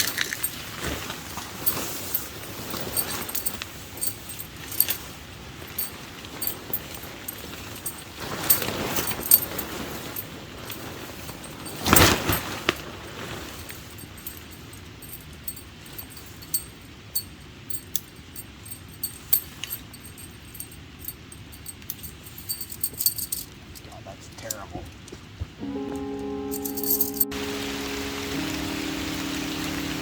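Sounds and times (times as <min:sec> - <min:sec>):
camping gear rustling: 0:00.0 - 0:23.9, 0:26.5 - 0:27.3.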